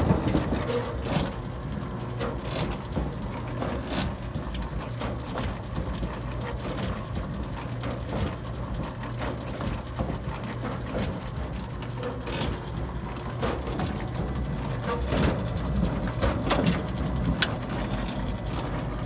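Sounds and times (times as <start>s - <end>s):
washing machine clattering: 0.0s - 19.0s.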